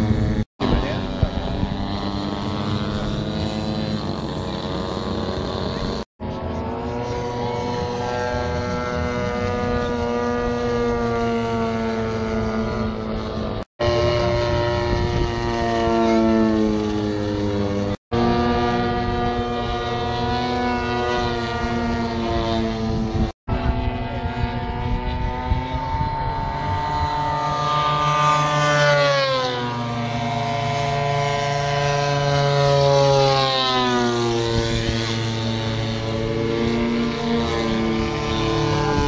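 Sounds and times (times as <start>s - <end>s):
model airplane motor buzzing: 0.0s - 39.0s.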